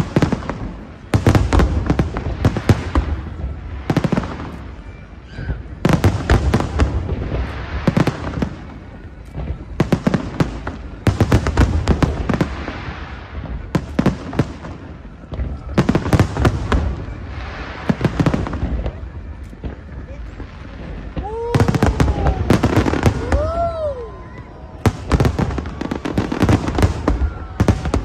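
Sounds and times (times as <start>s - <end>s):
deep fireworks booms: 0.0s - 28.0s
fireworks bangs and crackles: 0.0s - 28.0s.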